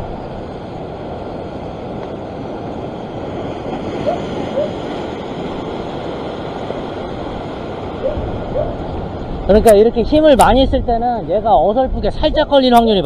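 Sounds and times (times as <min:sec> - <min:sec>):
surf breaking on rocks: 0:00.0 - 0:10.7.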